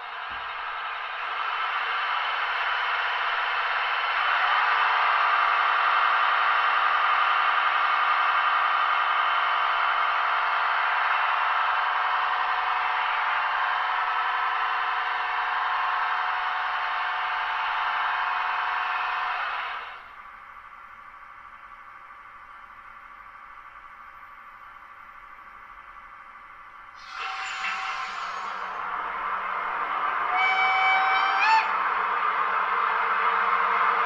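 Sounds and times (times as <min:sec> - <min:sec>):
electric locomotive sound from speaker: 0:00.0 - 0:20.2, 0:26.8 - 0:34.0.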